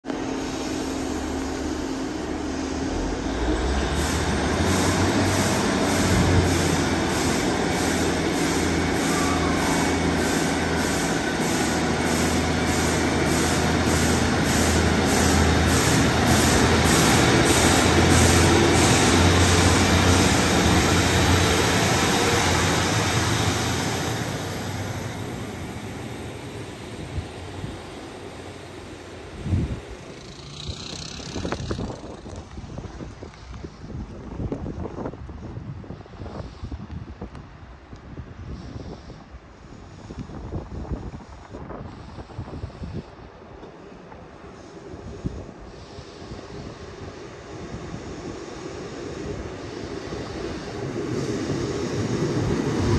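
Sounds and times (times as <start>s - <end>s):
diesel train engines pulling away: 0.0s - 36.7s, 38.7s - 52.9s.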